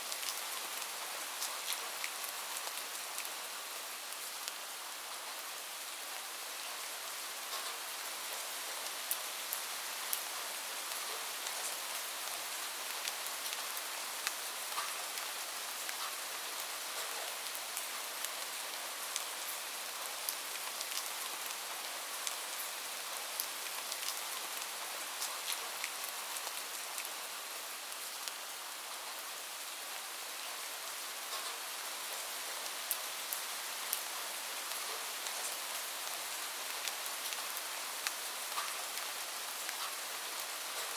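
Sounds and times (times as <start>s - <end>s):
light rain falling: 0.0s - 40.9s.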